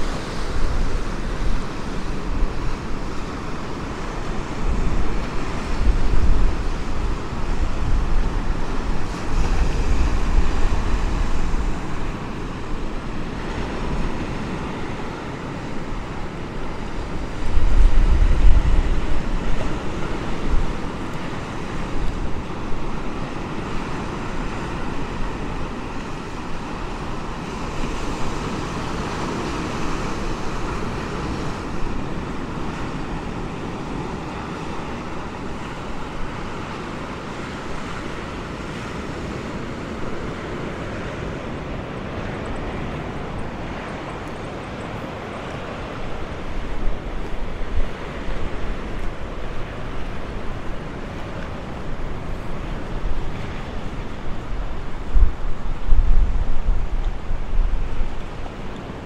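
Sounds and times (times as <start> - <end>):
surf rushing: 0.0 - 59.0
wind buffeting microphone: 0.0 - 59.0.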